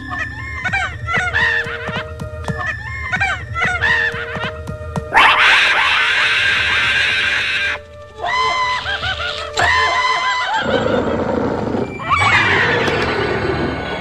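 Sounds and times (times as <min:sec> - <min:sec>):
cartoon music and sound effects: 0:00.0 - 0:11.3
squeaky cartoon voices chattering: 0:00.0 - 0:11.3.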